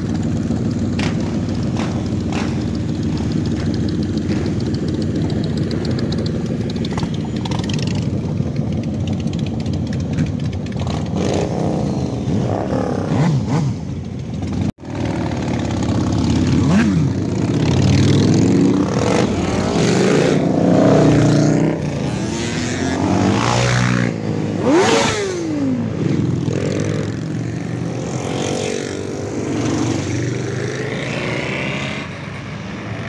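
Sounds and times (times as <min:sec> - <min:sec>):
motorcycles riding past revving: 0:00.0 - 0:33.0.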